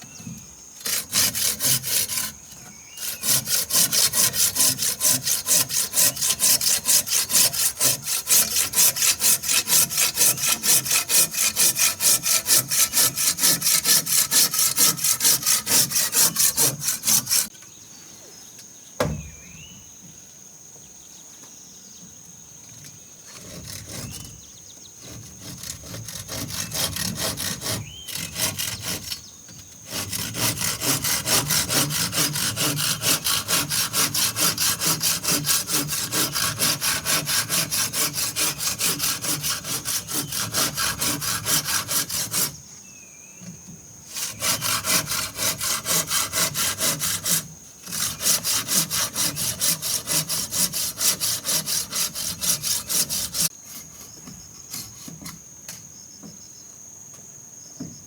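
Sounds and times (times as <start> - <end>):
hand saw cutting wood: 0.2 - 17.5, 23.3 - 42.6, 44.1 - 55.4.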